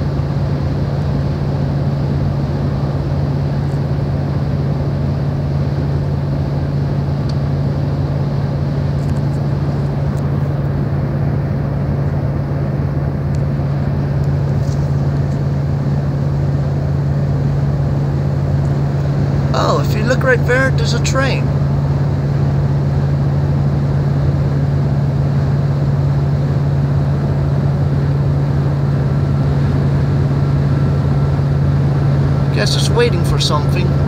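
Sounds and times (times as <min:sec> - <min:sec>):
constant low hum: 0:00.0 - 0:34.0
vehicle engine and road drone: 0:00.0 - 0:34.0.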